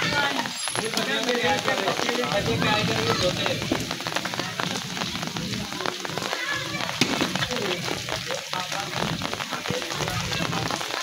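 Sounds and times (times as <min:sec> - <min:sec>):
rain patter: 0:00.0 - 0:11.0.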